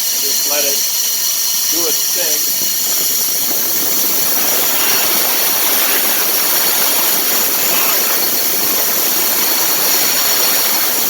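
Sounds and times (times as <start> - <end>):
grain vacuum rushing hiss: 0.0 - 11.0.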